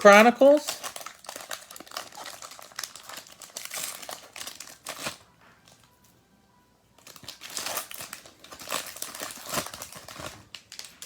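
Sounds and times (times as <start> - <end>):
plastic wrapper crinkling and tearing: 0.0 - 6.0, 6.9 - 11.0.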